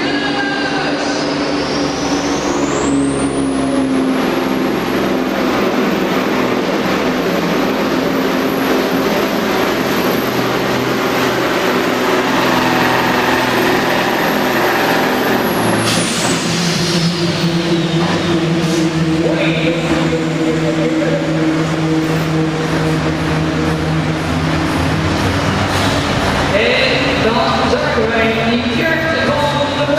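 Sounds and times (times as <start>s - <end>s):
high engine whine: 0.0s - 29.9s
truck engine at full throttle: 0.0s - 29.9s.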